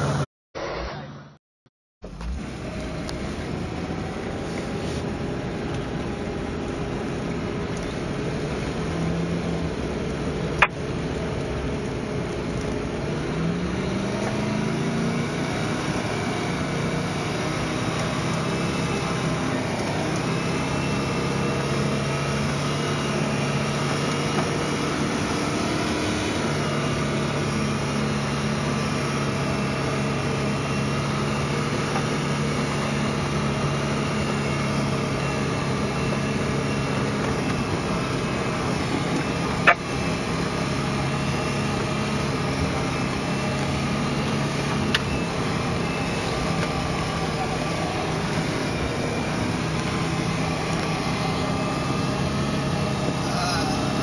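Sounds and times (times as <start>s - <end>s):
car engine revving: 2.0s - 54.0s.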